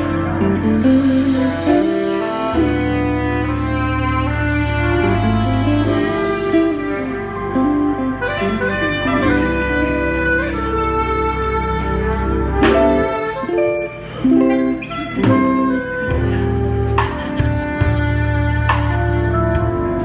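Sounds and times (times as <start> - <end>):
electric guitar: 0.0 - 20.0
low bass notes: 0.0 - 20.0
saxophone melody: 0.0 - 20.0.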